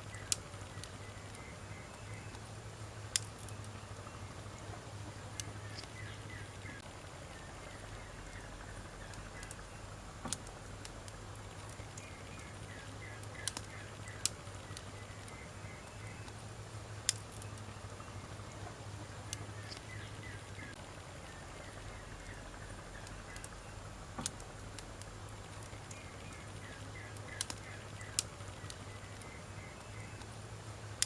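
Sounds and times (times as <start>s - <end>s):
faint bird chirps: 0.0s - 10.6s, 11.5s - 16.5s, 17.1s - 24.0s, 25.6s - 30.4s
wood fire hissing and popping: 0.0s - 31.0s.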